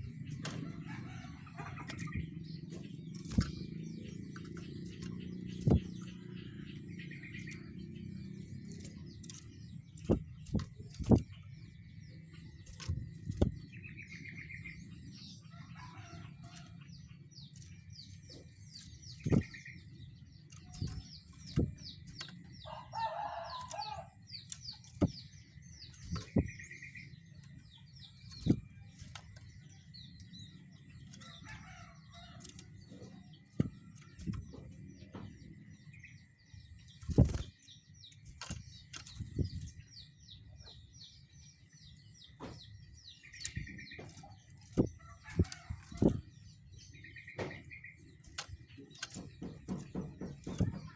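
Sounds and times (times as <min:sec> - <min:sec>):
sharp knocks and flutters: 0:00.0 - 0:40.8, 0:41.7 - 0:50.9
songbird chirping: 0:00.0 - 0:50.9.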